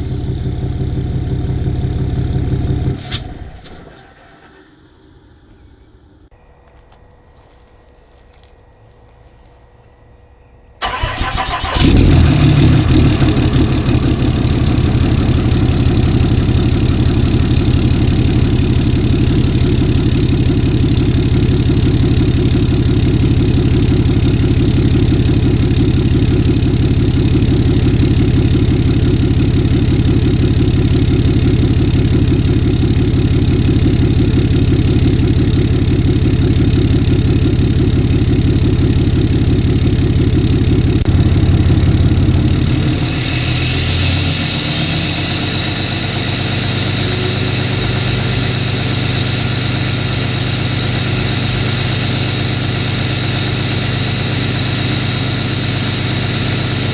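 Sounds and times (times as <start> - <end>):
diesel engine cranking and starting: 0.0 - 56.9
diesel engine idling: 0.0 - 56.9.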